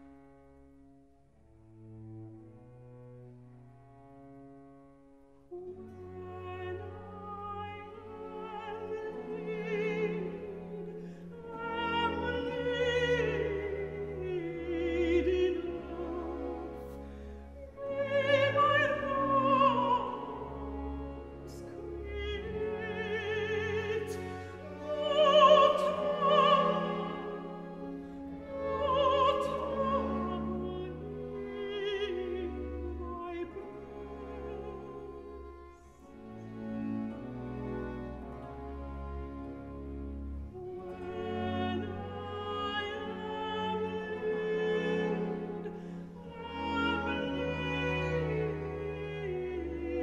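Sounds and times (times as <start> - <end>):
orchestral strings: 0.0 - 50.0
operatic singing: 5.5 - 36.2, 40.5 - 50.0.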